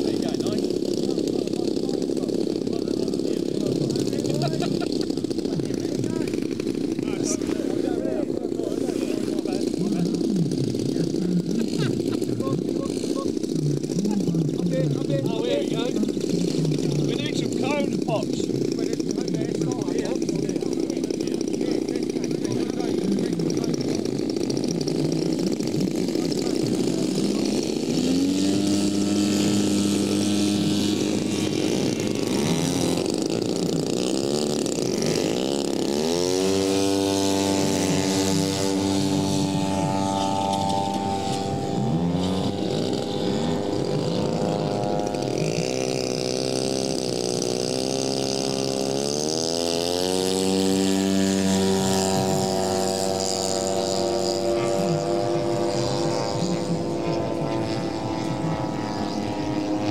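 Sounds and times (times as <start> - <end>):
model plane propeller engines: 0.0 - 59.9.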